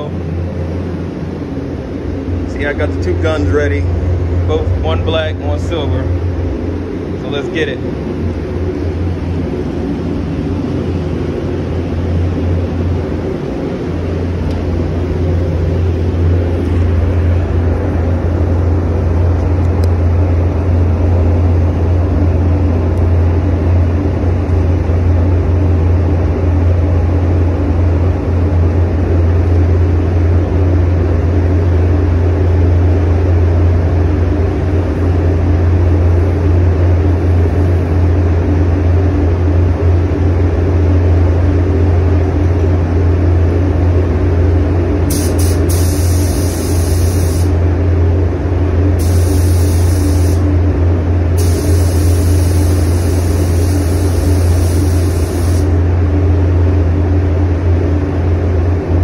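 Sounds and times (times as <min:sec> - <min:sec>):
ventilation fans droning: 0:00.0 - 0:59.0.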